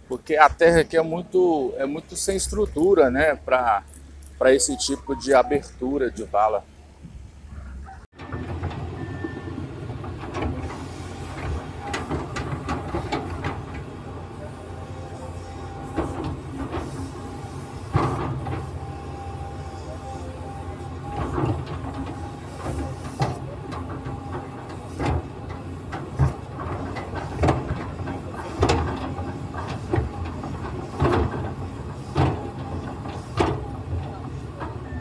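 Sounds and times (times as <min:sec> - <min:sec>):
excavator engine and hydraulic hum: 0:00.0 - 0:35.0.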